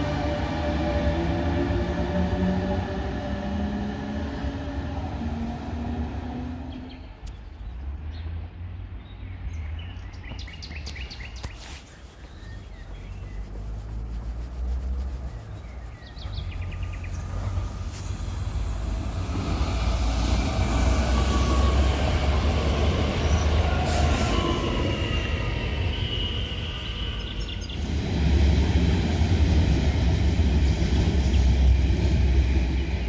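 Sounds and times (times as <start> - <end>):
train passing with rumble: 0.0 - 33.0.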